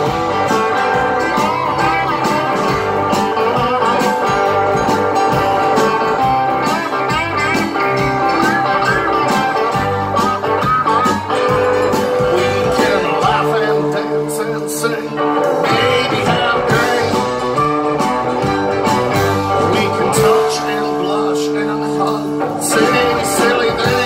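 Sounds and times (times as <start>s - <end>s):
blues-rock band playing: 0.0s - 24.0s
lead guitar bent notes: 0.0s - 24.0s
steady drum beat: 0.0s - 24.0s.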